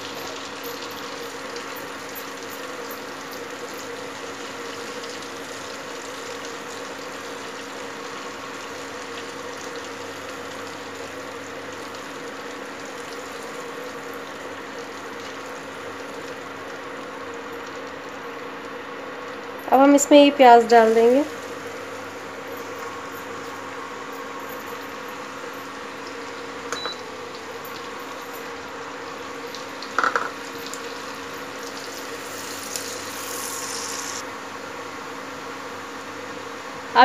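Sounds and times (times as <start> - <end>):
seeds sizzling in hot oil: 0.0 - 37.0.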